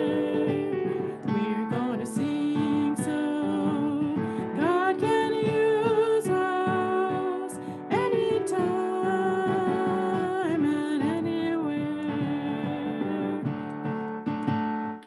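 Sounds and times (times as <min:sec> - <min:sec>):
woman singing: 0:00.0 - 0:14.1
gospel piano chords: 0:00.0 - 0:15.0.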